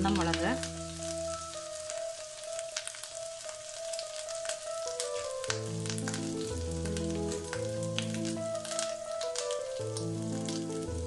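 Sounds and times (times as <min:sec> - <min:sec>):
mustard seeds spluttering: 0:00.0 - 0:11.0
sharp pops and crackles: 0:00.0 - 0:11.0
spices sizzling in hot oil: 0:00.0 - 0:11.0.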